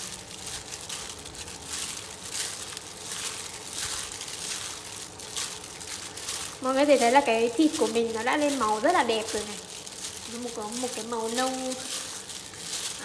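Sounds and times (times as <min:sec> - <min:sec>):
hand squeezing meat in bowl: 0:00.0 - 0:13.0
plastic glove crinkling: 0:00.0 - 0:13.0.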